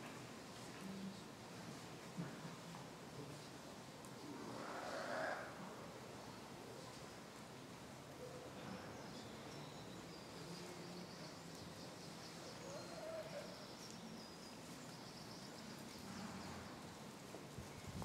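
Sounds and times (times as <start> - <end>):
faint outdoor background noise: 0.0 - 18.0.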